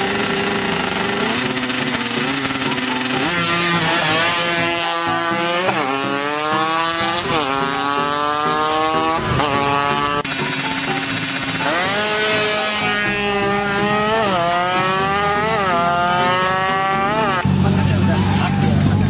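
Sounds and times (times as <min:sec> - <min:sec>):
motorcycle engine accelerating hard: 0:00.0 - 0:19.0.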